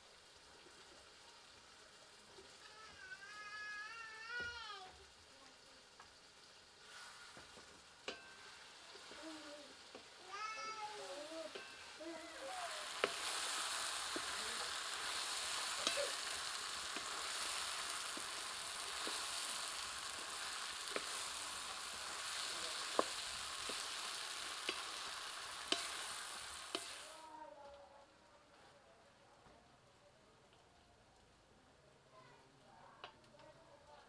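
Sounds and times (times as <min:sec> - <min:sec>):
food sizzling in hot oil: 0:00.0 - 0:27.5.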